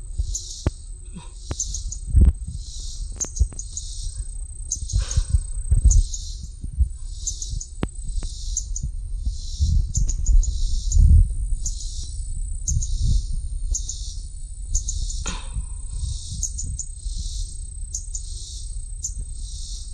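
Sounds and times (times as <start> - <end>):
low thumps on microphone: 0.0 - 3.8, 4.7 - 17.4
bird chirping: 0.2 - 19.9.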